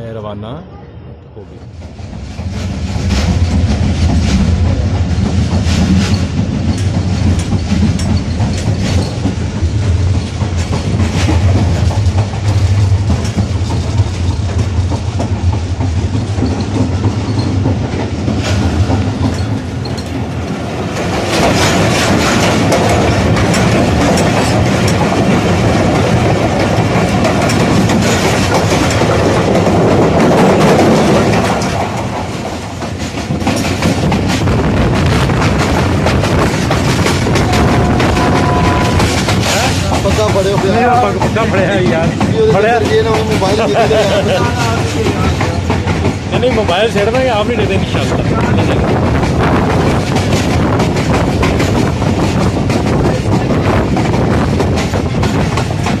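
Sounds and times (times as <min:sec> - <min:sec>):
train wheels rumbling on rails: 0:01.4 - 0:56.0
clickety-clack of rail joints: 0:01.6 - 0:56.0.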